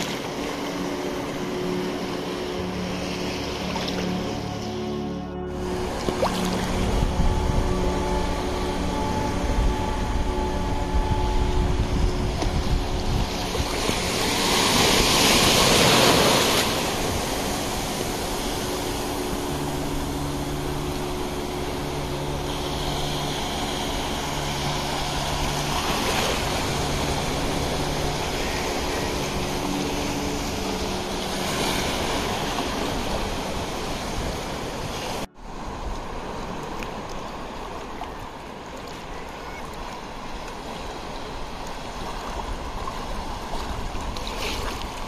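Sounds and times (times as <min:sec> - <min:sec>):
wave breaking: 0:00.0 - 0:37.6
surf washing on beach: 0:00.0 - 0:45.0.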